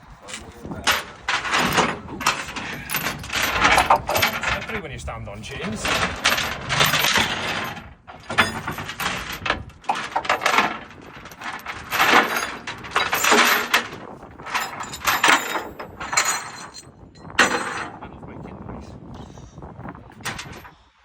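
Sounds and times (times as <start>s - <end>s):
chains dragged over steel deck: 0.2s - 4.9s, 5.5s - 18.0s, 20.2s - 20.7s
steel chains rattling and clanking: 0.2s - 18.0s, 20.2s - 20.7s.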